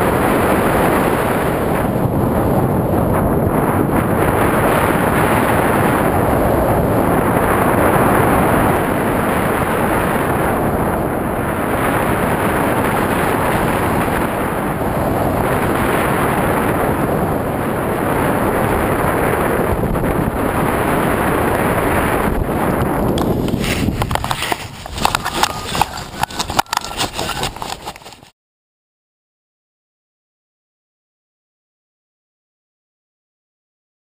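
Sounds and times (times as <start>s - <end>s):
wind rushing over microphone: 0.0s - 28.3s.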